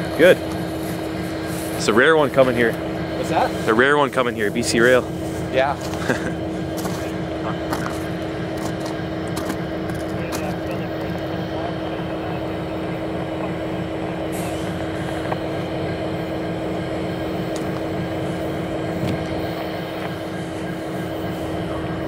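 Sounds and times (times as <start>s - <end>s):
distant diesel locomotives droning: 0.0s - 22.0s.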